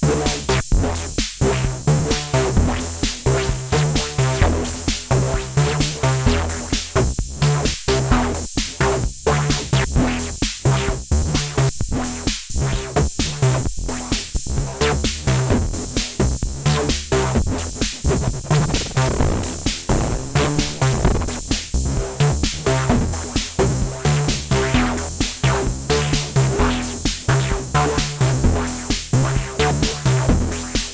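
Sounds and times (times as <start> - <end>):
drum machine beat: 0.0 - 30.9
synthesizer bass pattern: 0.0 - 30.9.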